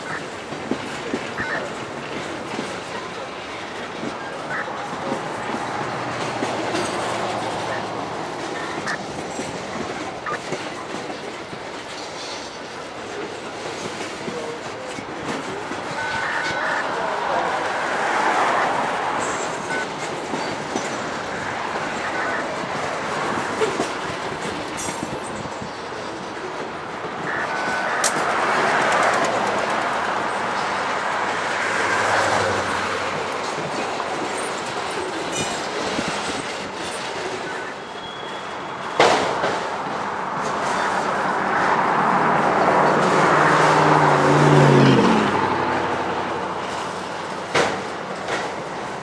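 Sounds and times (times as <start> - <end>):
freight train rumbling past: 0.0 - 49.0
wheels clattering over rails: 0.0 - 49.0.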